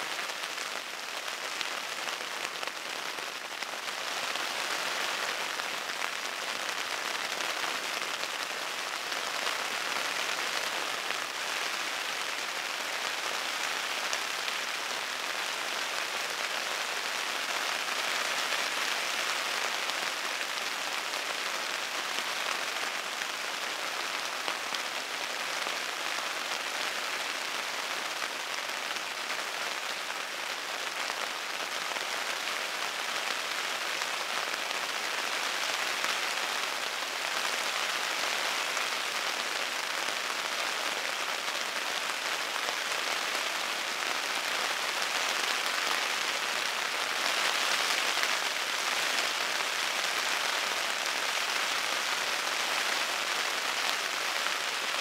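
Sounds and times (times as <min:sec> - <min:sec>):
rain on tent fabric: 0:00.0 - 0:55.0.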